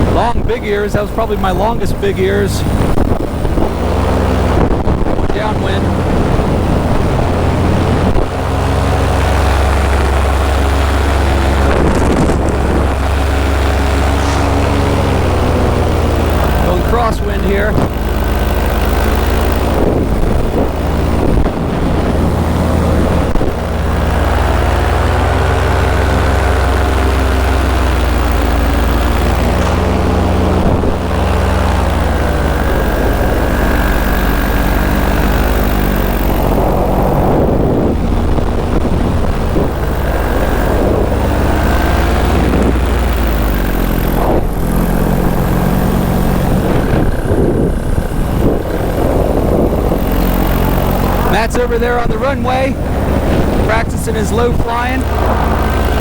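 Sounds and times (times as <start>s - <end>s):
paramotor engine and propeller: 0.0s - 56.0s
wind on microphone: 0.0s - 56.0s.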